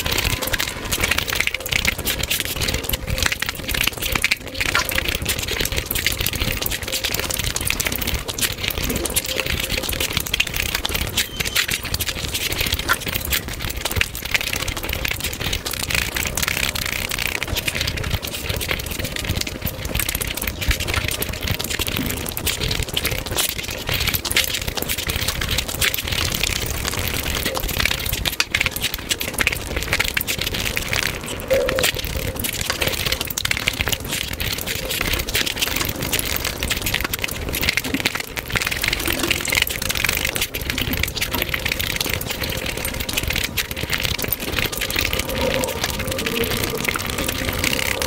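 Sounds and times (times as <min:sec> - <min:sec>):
sped-up chewing and smacking: 0:00.0 - 0:48.0.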